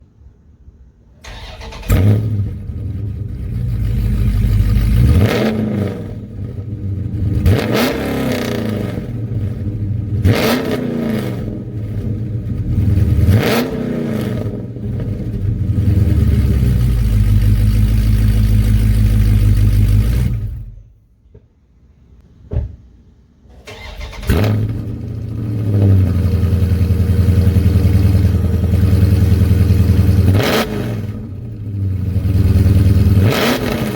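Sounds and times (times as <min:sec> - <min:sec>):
car engine revving: 0:01.2 - 0:20.9, 0:23.7 - 0:33.9.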